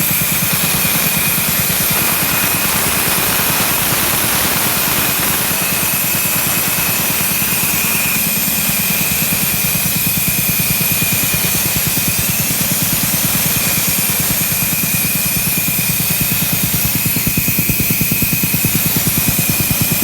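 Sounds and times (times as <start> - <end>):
air compressor pulsing: 0.0 - 20.0.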